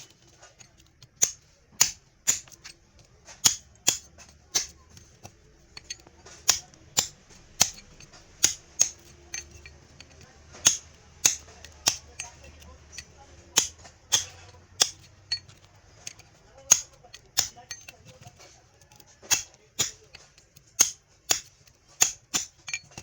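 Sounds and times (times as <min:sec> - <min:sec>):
tool snapping through copper wire: 0:00.0 - 0:23.0.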